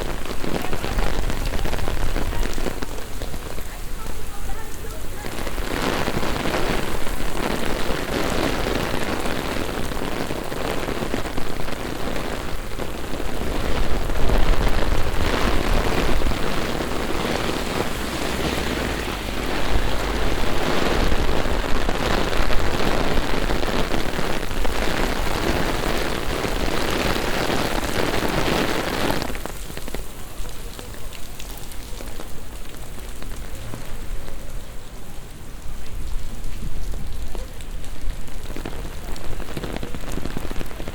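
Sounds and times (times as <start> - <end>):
heavy rain on pavement: 0.0 - 40.9.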